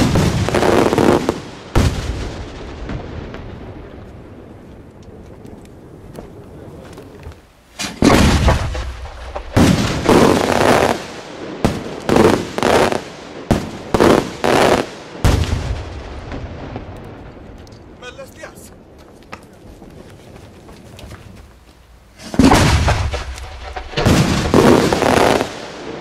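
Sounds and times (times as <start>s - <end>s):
fireworks bursting with loud bangs: 0.0s - 18.9s, 22.1s - 26.0s.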